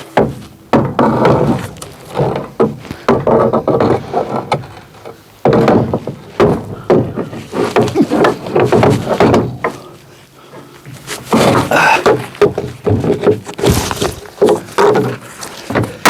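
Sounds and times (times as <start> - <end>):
firewood pieces knocking together: 0.2 - 10.0, 10.9 - 16.0.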